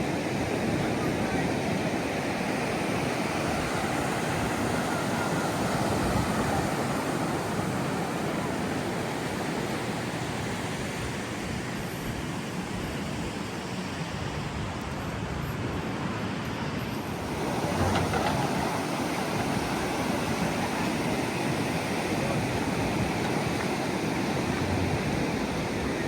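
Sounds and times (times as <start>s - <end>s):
ocean waves breaking: 0.0s - 14.7s, 15.3s - 26.0s.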